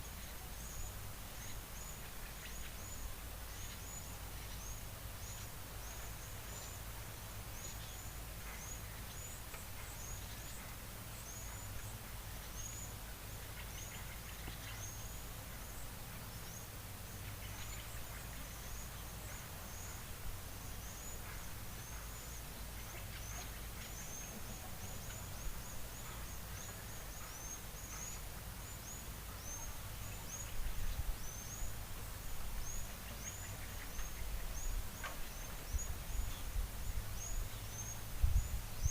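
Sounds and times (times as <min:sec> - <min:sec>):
small bird chirping: 0:00.0 - 0:38.9.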